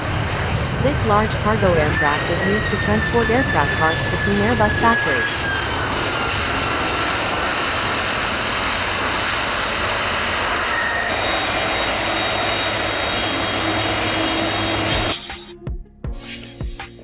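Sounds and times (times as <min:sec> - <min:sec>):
jet engines rushing: 0:00.0 - 0:15.5.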